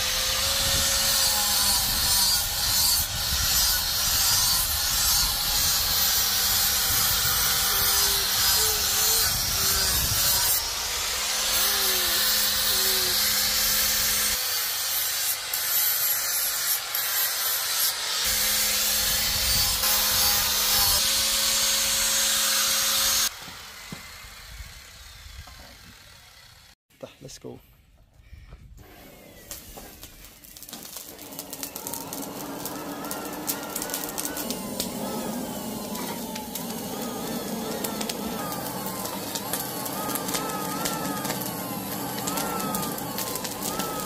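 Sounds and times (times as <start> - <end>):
angle grinder grinding steel: 0.0 - 26.8, 29.0 - 44.0.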